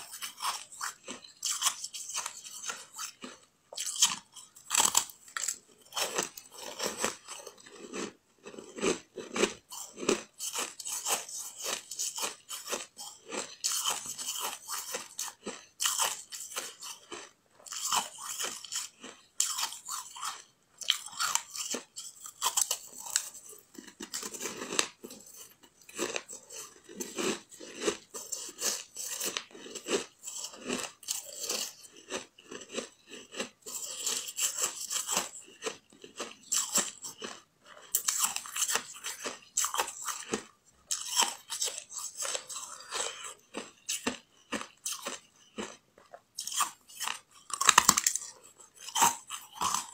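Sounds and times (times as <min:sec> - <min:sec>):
person crunching ice: 0:00.0 - 0:45.8, 0:46.4 - 0:49.9.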